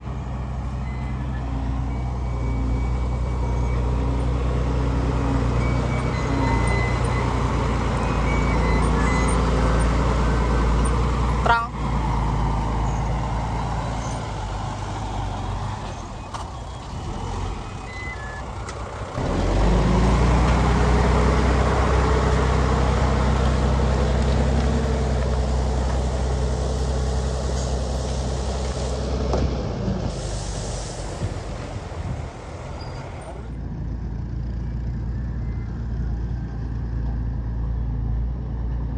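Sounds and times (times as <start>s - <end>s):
diesel construction machinery running: 0.0s - 38.9s.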